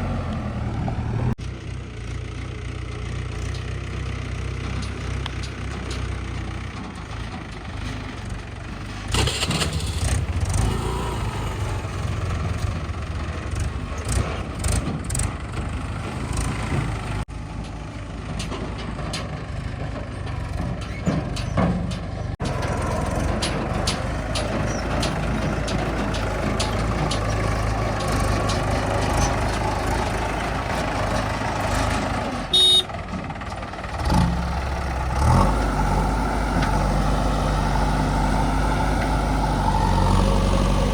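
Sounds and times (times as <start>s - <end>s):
tractor diesel engine running: 0.0s - 40.9s
knocks and clatter: 3.4s - 11.0s, 12.0s - 40.9s.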